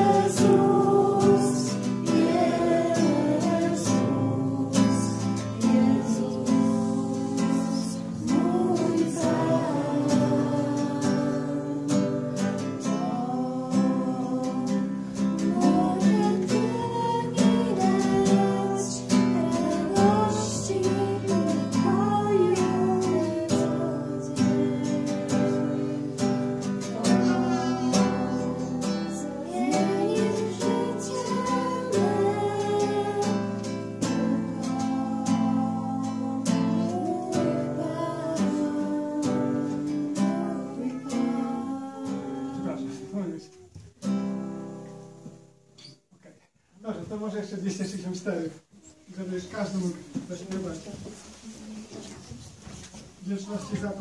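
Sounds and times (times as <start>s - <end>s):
congregation singing a hymn: 0.0s - 43.4s
strummed acoustic guitar: 0.0s - 46.1s.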